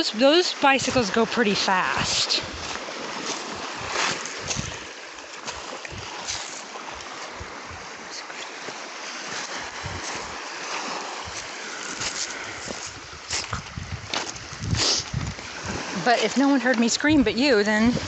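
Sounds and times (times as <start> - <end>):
small waves washing on a beach: 0.0 - 18.0
wind buffeting microphone: 0.0 - 18.0.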